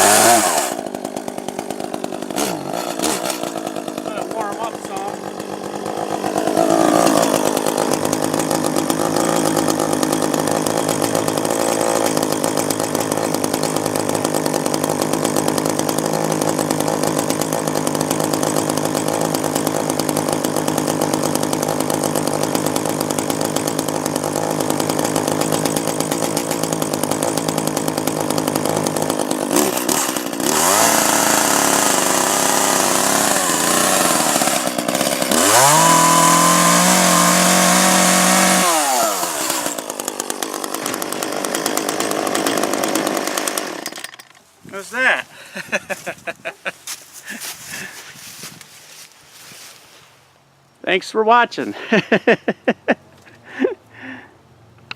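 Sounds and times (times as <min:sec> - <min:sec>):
chainsaw engine idling and revving: 0:00.0 - 0:49.8.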